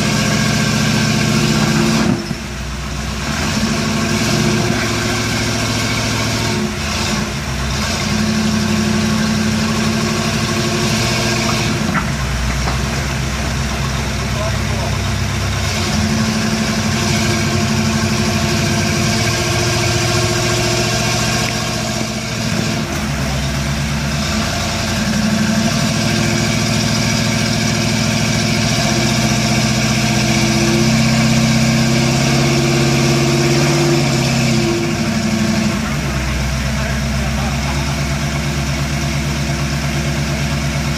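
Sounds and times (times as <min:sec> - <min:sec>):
truck engine running under load: 0:00.0 - 0:40.9.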